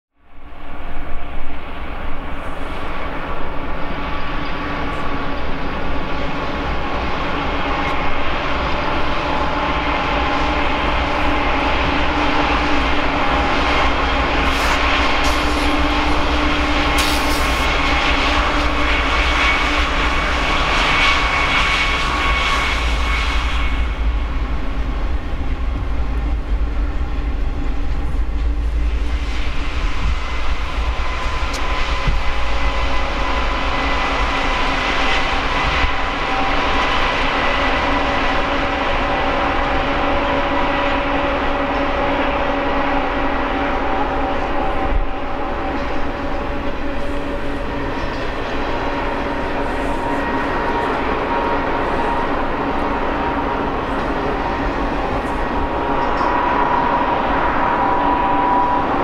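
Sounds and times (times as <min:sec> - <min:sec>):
deep rumble of train rolling: 0:00.1 - 0:59.0
diesel locomotive engines whining: 0:00.2 - 0:59.0.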